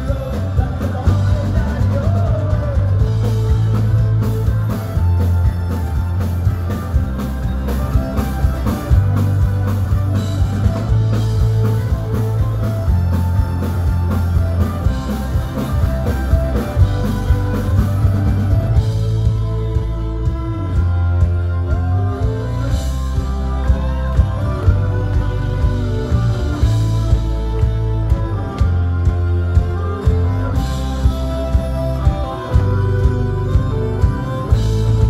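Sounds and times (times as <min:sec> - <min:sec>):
drums keeping a steady beat: 0:00.0 - 0:35.0
folk-punk band playing live: 0:00.0 - 0:35.0.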